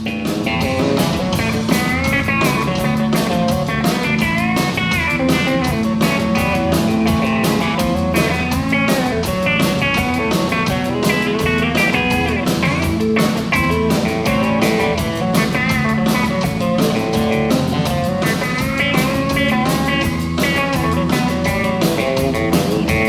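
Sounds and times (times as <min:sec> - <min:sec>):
backing track with drum beat: 0:00.0 - 0:23.0
lead guitar with bent notes: 0:00.0 - 0:23.0.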